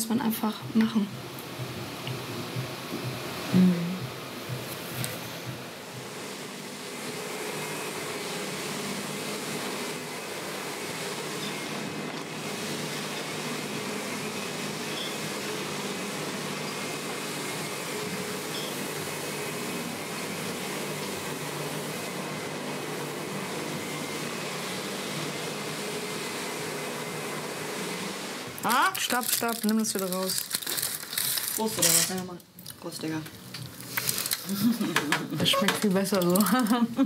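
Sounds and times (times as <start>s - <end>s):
upright vacuum cleaner running: 0.0s - 32.0s, 33.2s - 37.0s.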